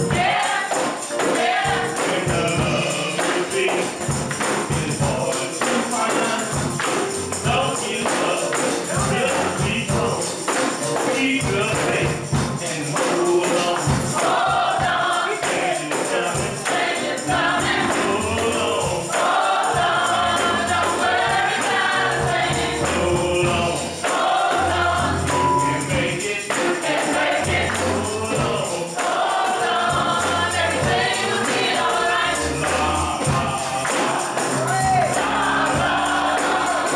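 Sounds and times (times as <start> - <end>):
gospel choir singing: 0.0 - 36.9
tambourine: 0.0 - 36.9.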